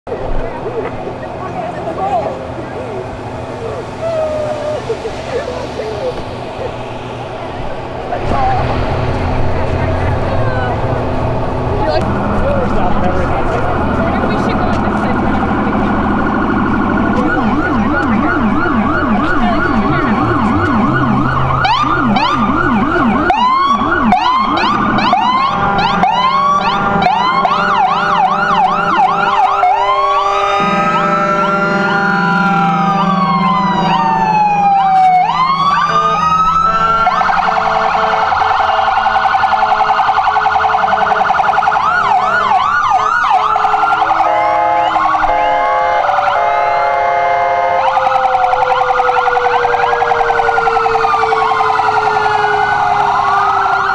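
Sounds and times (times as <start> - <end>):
emergency vehicle sirens: 0.0 - 53.9
steady blaring tone: 0.2 - 47.5.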